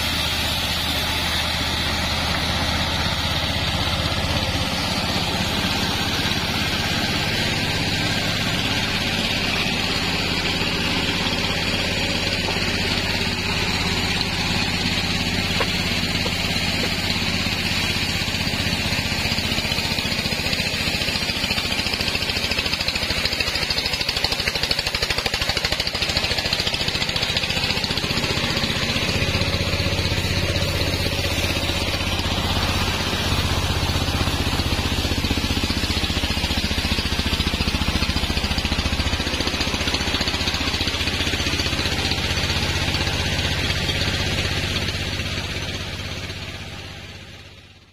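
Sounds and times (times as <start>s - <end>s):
stationary engine humming: 0.0s - 47.9s.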